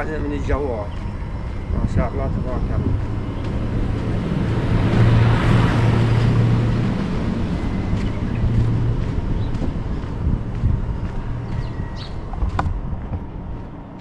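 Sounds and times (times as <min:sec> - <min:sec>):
car engine hum: 0:00.0 - 0:14.0
tyre and wind noise: 0:00.0 - 0:14.0.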